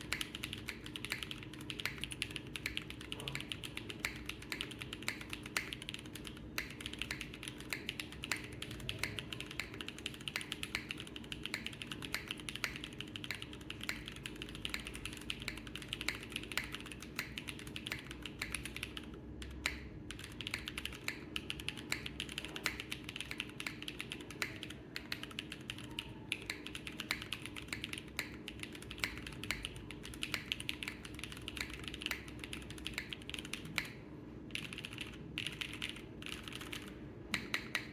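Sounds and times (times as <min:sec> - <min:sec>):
mechanical keyboard typing: 0:00.0 - 0:37.9.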